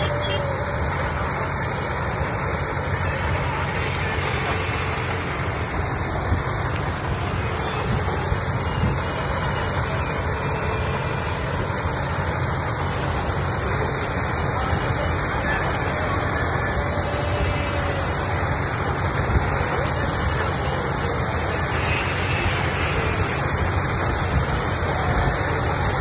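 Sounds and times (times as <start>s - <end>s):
engine drone: 0.0s - 26.0s
harvesting machinery noise: 0.0s - 26.0s.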